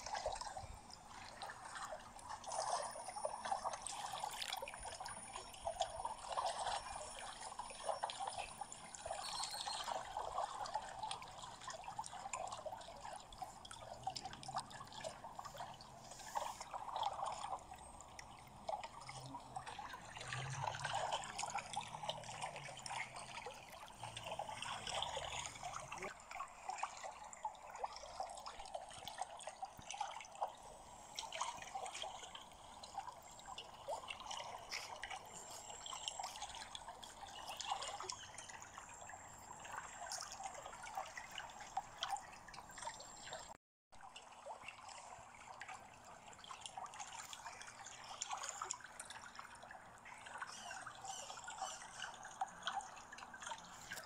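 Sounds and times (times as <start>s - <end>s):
pool water lapping and trickling: 0.0s - 54.0s
small drips and splashes: 0.0s - 54.0s.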